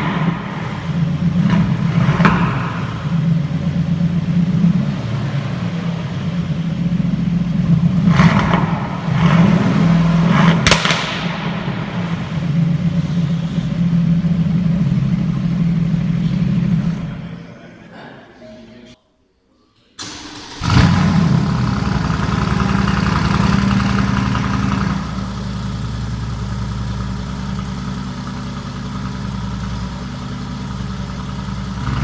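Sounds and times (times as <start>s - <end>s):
car engine running: 0.0s - 17.4s, 20.4s - 32.0s
sharp exhaust cracks: 0.0s - 17.4s, 20.0s - 32.0s.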